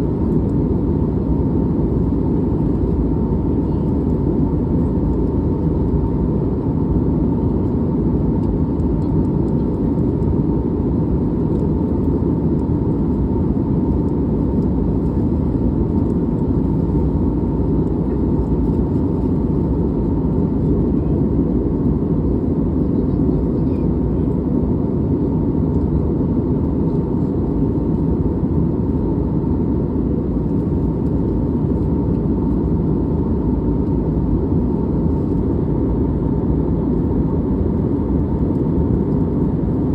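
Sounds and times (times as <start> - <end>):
airliner cabin engine rush: 0.0 - 39.9
faint steady hum: 0.0 - 39.9.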